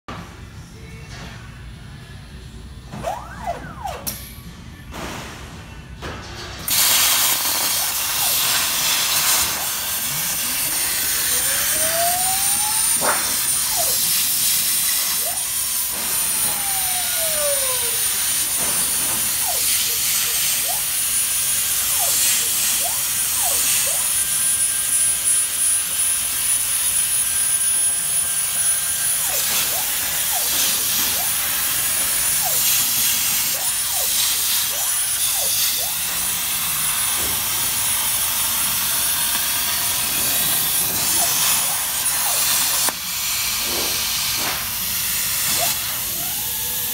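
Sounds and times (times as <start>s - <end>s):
gantry motor whining: 6.6s - 46.9s
plasma arc hissing: 6.7s - 46.9s.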